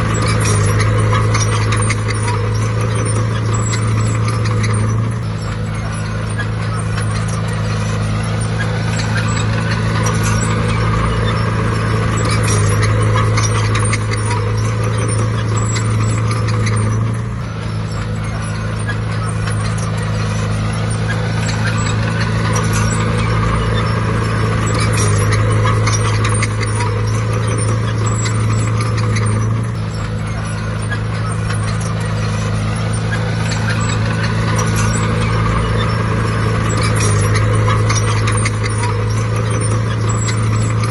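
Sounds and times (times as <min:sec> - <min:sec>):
bulldozer diesel engine running: 0:00.0 - 0:40.9
metal tracks clattering and squeaking: 0:00.0 - 0:40.9.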